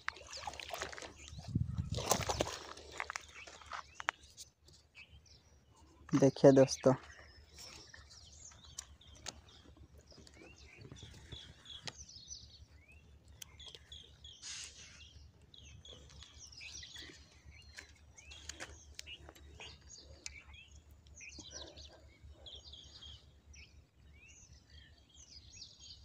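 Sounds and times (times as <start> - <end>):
faint bird chirping: 0.2 - 26.0.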